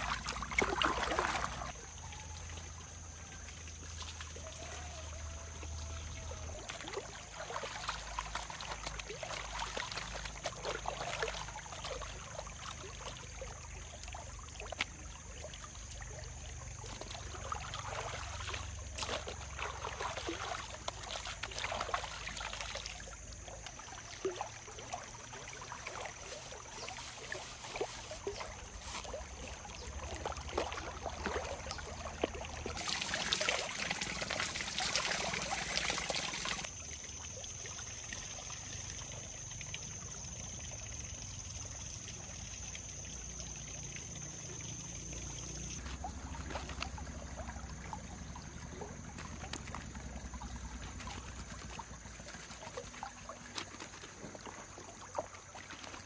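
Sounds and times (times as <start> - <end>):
stream water flowing and trickling: 0.0 - 56.0.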